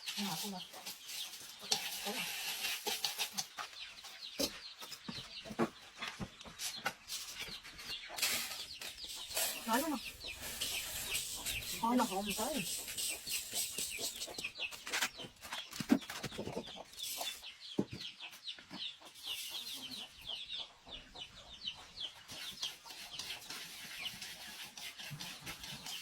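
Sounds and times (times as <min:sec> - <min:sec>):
chicks peeping: 0:03.0 - 0:24.7.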